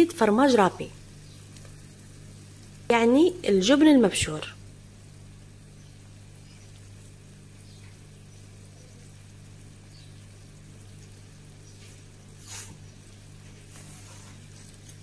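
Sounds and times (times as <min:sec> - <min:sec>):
sauce sizzling and popping: 0:00.0 - 0:15.0
steady low hum: 0:00.0 - 0:15.0.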